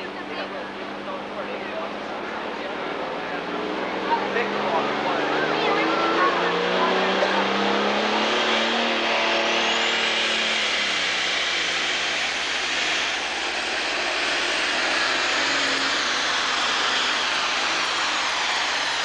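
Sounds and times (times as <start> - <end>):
tractor diesel engine roaring: 0.0 - 19.0
turbocharger whine: 0.0 - 19.0.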